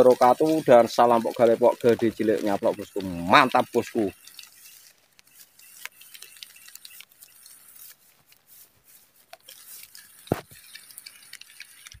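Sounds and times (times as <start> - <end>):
raindrops ticking: 0.0 - 12.0.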